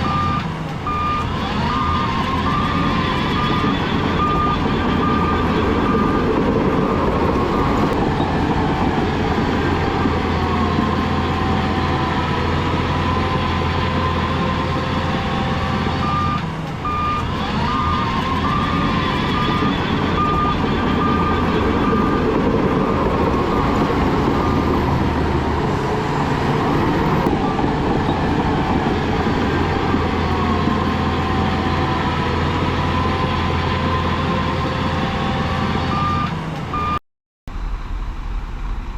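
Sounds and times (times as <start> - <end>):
reversing alarm beeping: 0.0 - 25.7, 26.6 - 37.0
heavy diesel machinery engine drone: 0.0 - 38.9.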